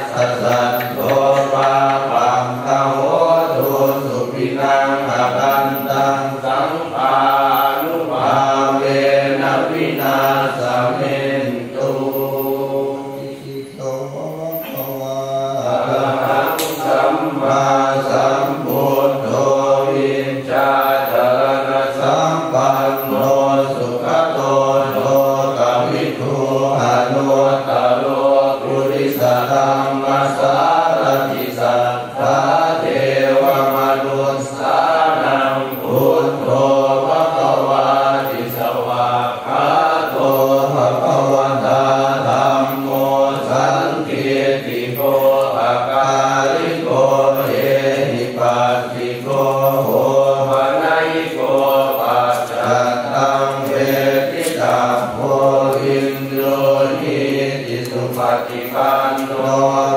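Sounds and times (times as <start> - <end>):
monotone chanting voices: 0.0 - 59.9.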